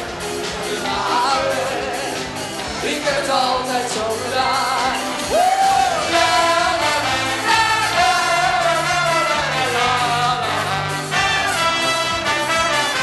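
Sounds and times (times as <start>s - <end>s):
party band music: 0.0s - 13.0s
lead singer: 0.4s - 13.0s.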